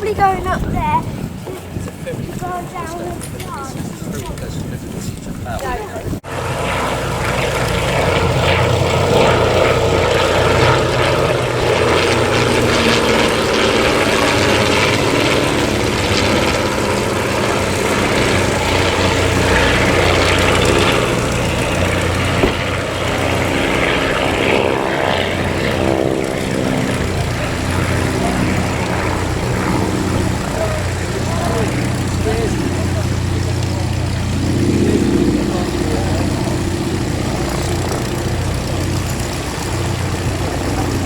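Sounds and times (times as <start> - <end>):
propeller aircraft engine running: 0.0 - 41.0.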